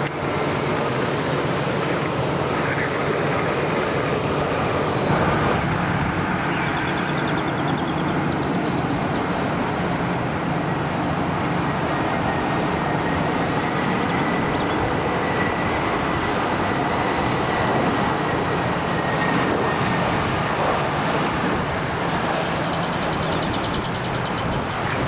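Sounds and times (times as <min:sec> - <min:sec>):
loud engine roar: 0:00.0 - 0:25.0.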